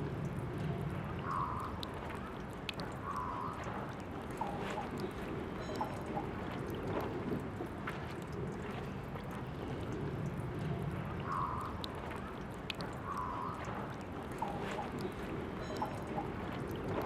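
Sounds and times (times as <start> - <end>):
water drips: 0.0 - 17.0.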